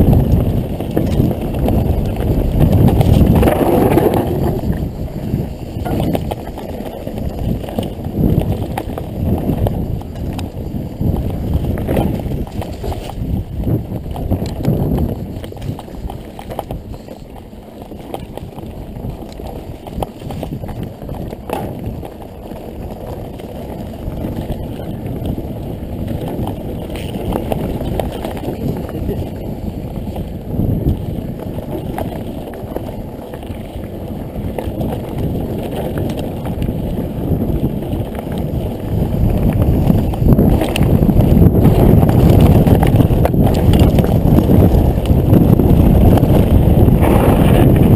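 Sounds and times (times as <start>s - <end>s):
wind on microphone: 0.0s - 47.9s.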